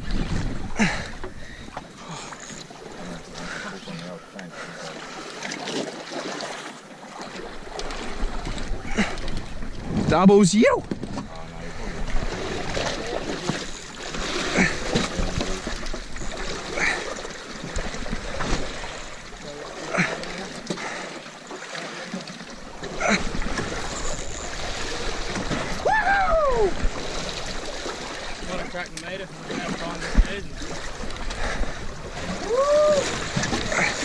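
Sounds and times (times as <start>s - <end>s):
water sloshing around boat: 0.0s - 34.0s.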